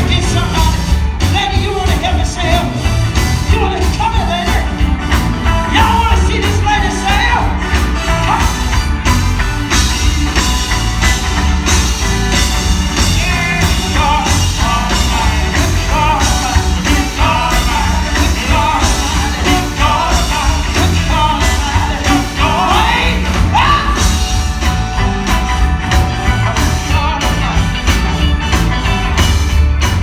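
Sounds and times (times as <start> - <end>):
band playing drums and bass: 0.0 - 30.0.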